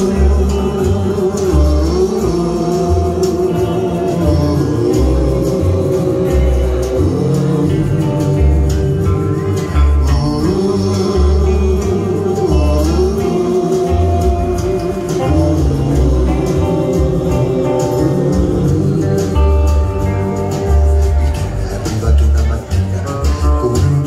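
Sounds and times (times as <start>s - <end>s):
live band over speakers: 0.0s - 24.0s
pulsing bass notes: 0.0s - 24.0s.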